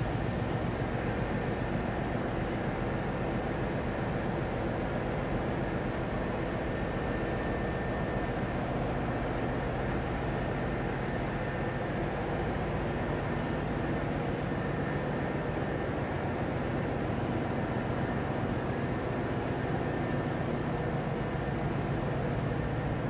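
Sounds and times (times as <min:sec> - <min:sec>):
engine-room machinery drone: 0:00.0 - 0:23.0.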